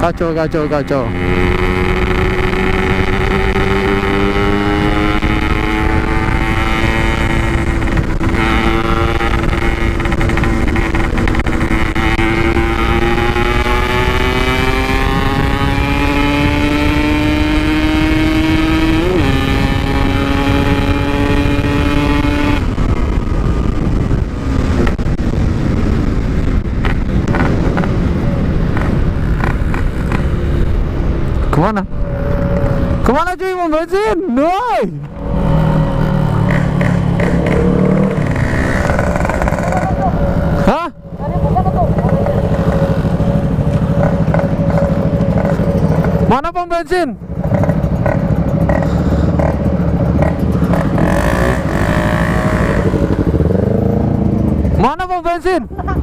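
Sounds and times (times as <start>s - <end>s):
wind rush: 0.0s - 33.3s, 34.1s - 46.4s
motorcycle engine running: 0.0s - 56.0s.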